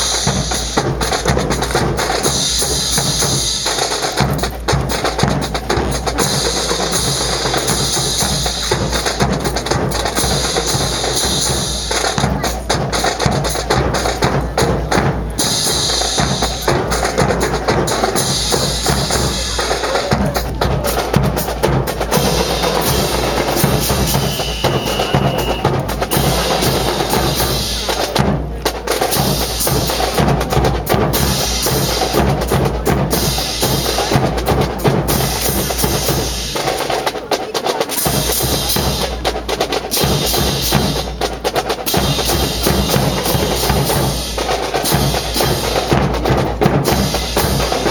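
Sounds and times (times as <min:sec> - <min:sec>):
marching drum corps playing: 0:00.0 - 0:47.9.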